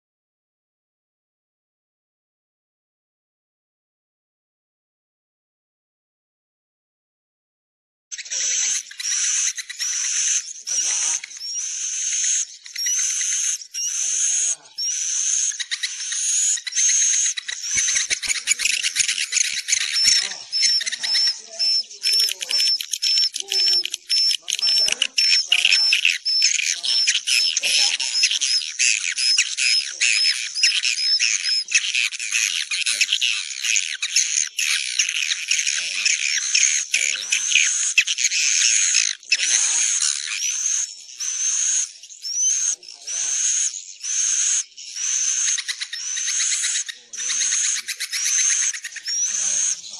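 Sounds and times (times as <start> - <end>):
swiftlets chittering: 8.2 - 49.9.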